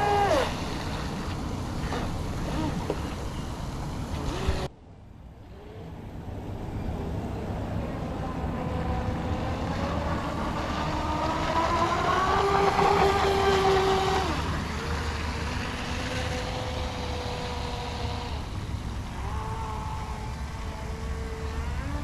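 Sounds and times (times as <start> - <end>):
electric boat motor whining: 0.0 - 4.7, 5.5 - 22.0.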